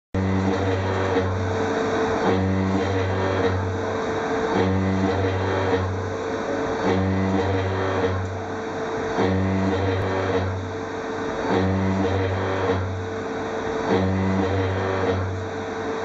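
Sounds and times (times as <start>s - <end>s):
milling machine cutting metal: 0.2s - 16.0s.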